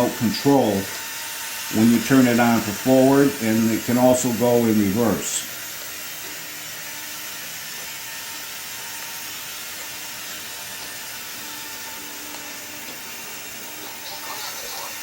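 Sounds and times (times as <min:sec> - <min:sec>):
toy train motor hum: 0:00.0 - 0:15.0.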